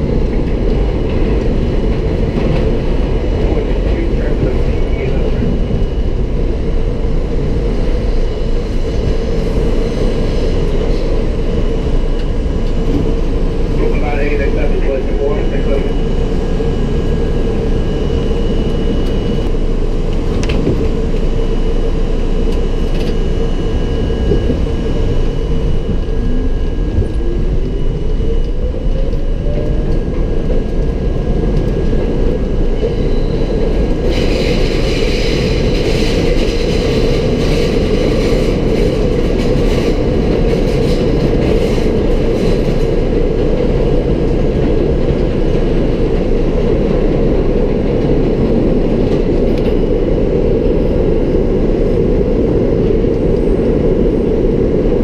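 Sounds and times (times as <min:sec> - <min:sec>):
rising whine: 0:00.0 - 0:55.0
subway train rumble: 0:00.0 - 0:55.0.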